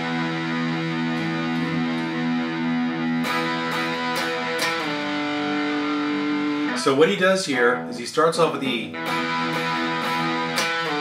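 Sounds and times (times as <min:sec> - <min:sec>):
distorted electric guitar chords: 0:00.0 - 0:11.0.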